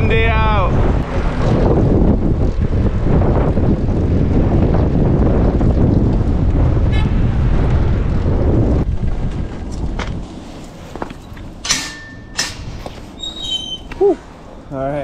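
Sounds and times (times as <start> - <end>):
street noise: 0.0 - 15.0
wind buffeting microphone: 0.0 - 15.0.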